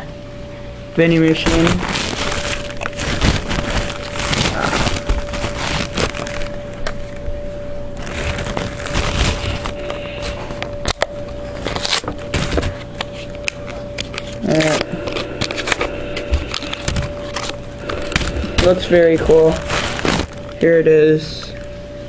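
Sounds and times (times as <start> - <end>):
faint steady hum: 0.0 - 22.0
cardboard packaging rustling: 1.0 - 21.3.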